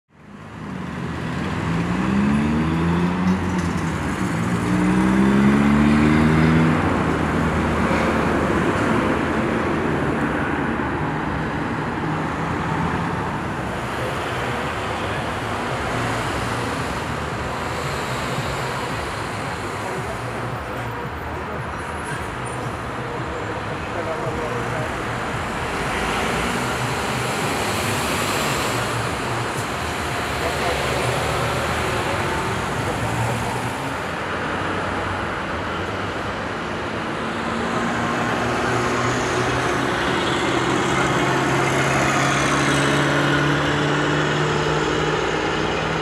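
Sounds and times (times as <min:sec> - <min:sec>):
road traffic: 0:00.1 - 0:46.0.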